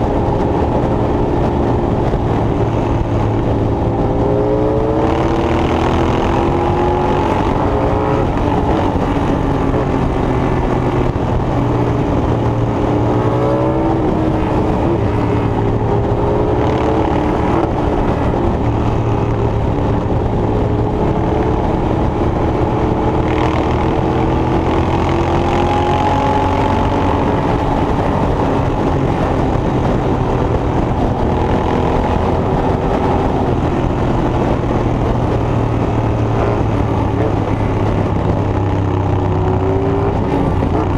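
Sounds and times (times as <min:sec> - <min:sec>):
low engine hum: 0:00.0 - 0:40.9.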